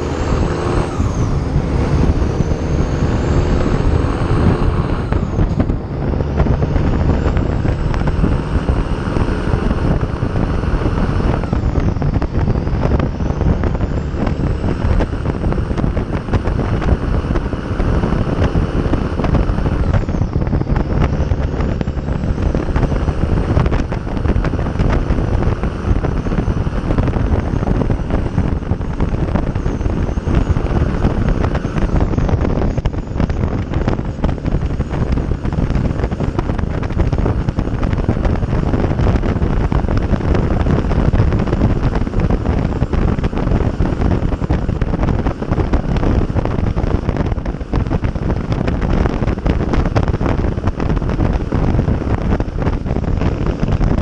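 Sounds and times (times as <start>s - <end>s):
diesel engine cruising: 0.0s - 54.0s
wind rushing over microphone: 0.0s - 54.0s.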